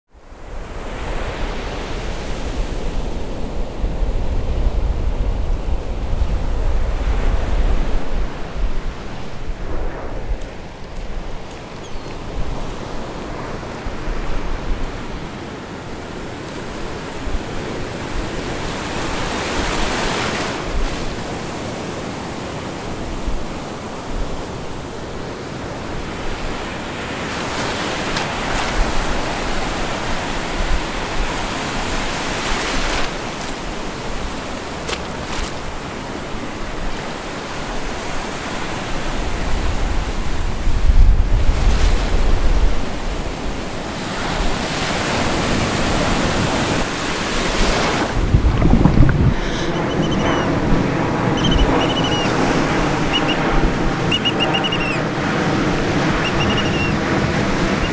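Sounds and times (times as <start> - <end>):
wind rumbling on microphone: 0.1 - 57.9
waves breaking: 0.6 - 57.9.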